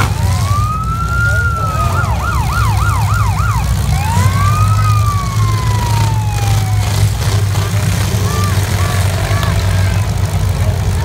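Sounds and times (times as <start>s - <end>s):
siren wailing: 0.0s - 10.0s
car engines rumbling: 0.0s - 11.0s.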